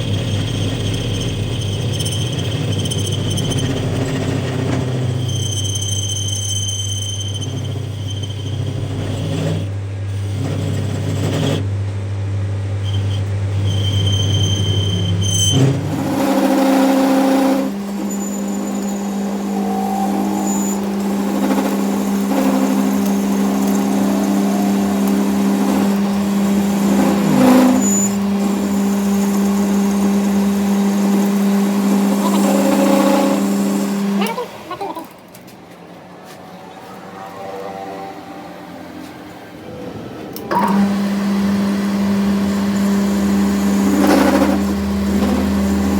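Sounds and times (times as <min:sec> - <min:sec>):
machine humming: 0:00.0 - 0:35.3, 0:36.5 - 0:45.9.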